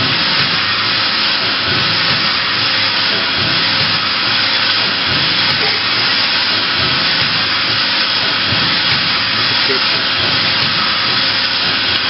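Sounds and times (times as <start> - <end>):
machine running with loud hiss: 0.0 - 12.0.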